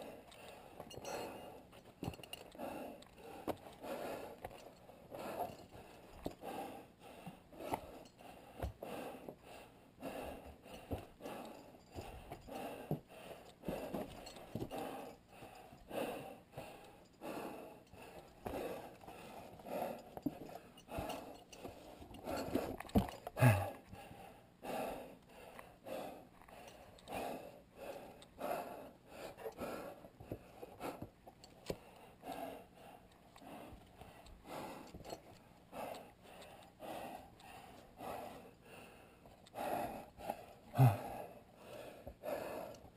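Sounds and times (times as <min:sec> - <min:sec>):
person breathing hard: 0:00.0 - 0:42.9.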